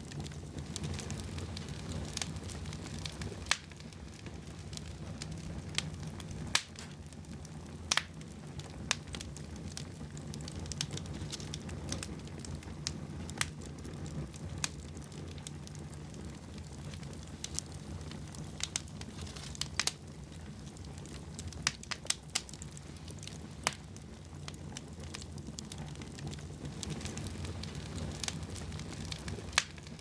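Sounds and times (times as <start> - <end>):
fire crackling in fireplace: 0.0 - 30.0.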